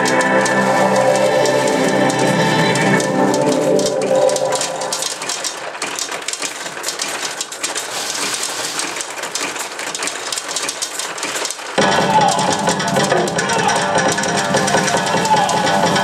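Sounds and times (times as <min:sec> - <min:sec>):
steel balls clattering: 0:00.0 - 0:16.0.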